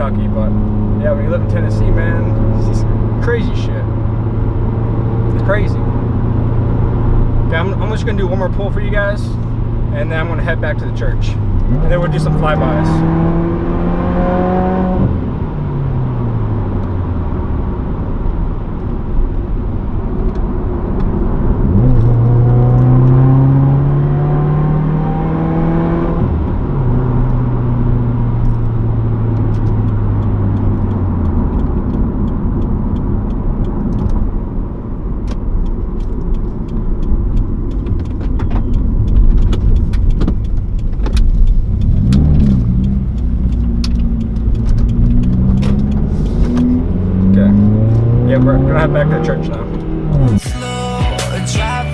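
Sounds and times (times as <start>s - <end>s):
car engine accelerating hard: 0.0s - 50.5s.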